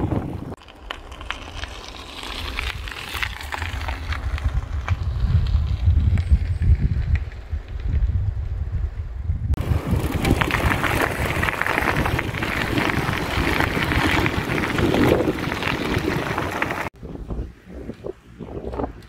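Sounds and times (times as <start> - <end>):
bike tyres rolling on gravel: 0.0 - 19.0
wind rumbling on microphone: 0.0 - 19.0.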